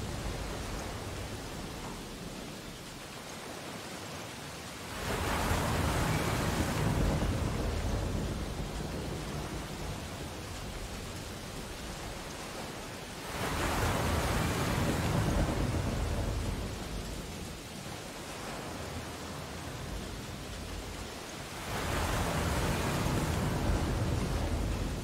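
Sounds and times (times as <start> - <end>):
sea surf breaking: 4.8 - 25.0.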